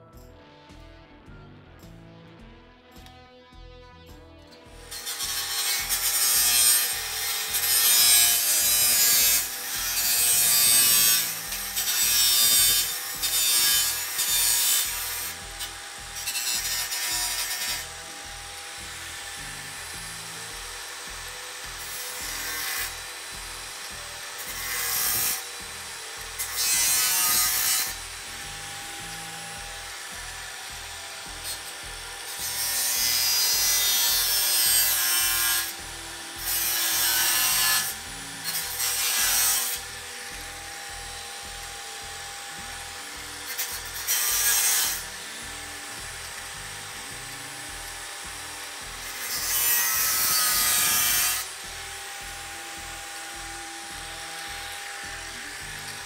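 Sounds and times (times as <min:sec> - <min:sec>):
grinder cutting steel: 0:04.0 - 0:56.0
grinder motor whine: 0:04.8 - 0:56.0.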